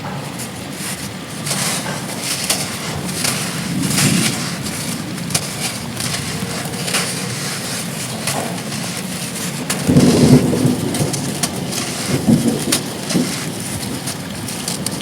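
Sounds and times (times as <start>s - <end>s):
heavy rain falling: 0.0s - 15.0s
short crackles: 0.0s - 15.0s.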